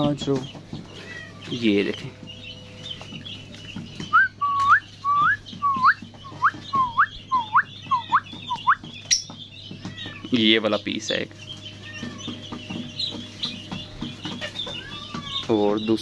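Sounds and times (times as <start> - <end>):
faint high bird chirping: 0.0 - 16.0.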